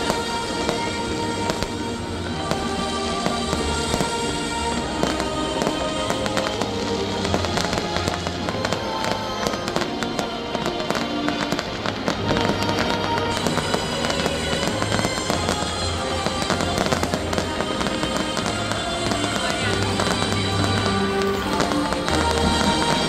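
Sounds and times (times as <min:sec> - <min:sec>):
fireworks crackling pops: 0:00.0 - 0:23.0
music playing: 0:00.0 - 0:23.0.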